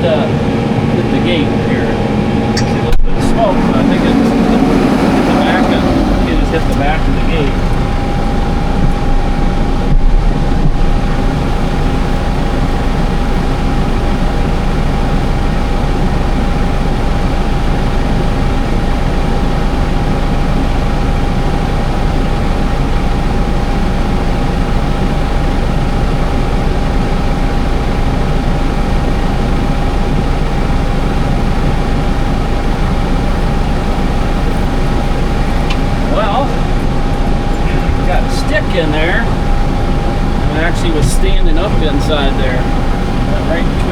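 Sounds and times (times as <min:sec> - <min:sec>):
constant whine: 0:00.0 - 0:43.9
tractor engine running: 0:00.0 - 0:43.9.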